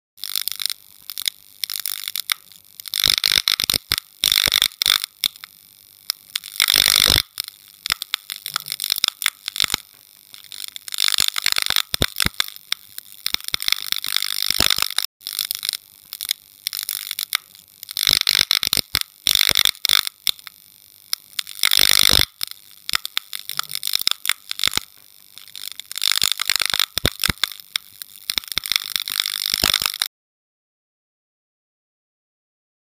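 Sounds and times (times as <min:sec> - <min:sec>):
harsh crackling scraping noise: 0:00.2 - 0:30.1
sharp clicks: 0:00.2 - 0:30.1.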